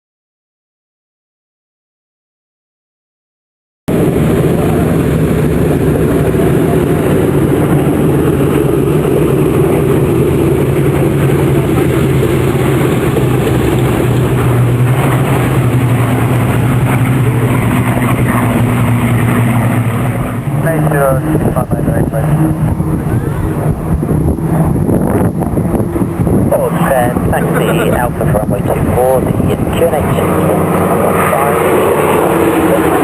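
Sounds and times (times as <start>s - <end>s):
aircraft engine droning: 3.9s - 33.0s
higher engine tone: 3.9s - 33.0s.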